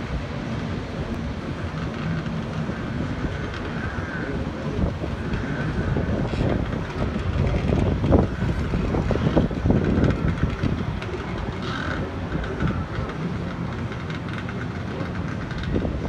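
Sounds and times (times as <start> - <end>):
distant jet ski engines: 0.0 - 16.0
faint wavering engine whine: 0.0 - 16.0
surf rumble: 0.0 - 16.0
wind buffeting microphone: 0.0 - 16.0.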